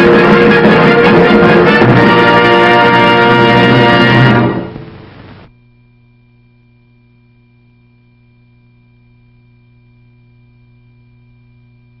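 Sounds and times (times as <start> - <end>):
faint high steady tones: 0.1 - 11.9
low mains hum: 1.9 - 12.0.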